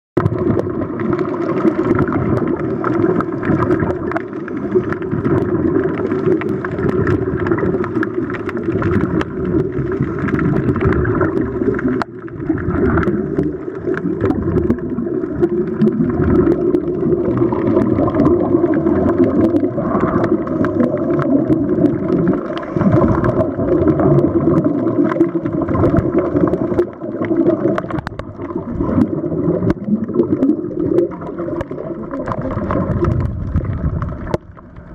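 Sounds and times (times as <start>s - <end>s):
faint underwater clicks: 0.2s - 34.9s
muffled underwater noise: 0.2s - 34.9s.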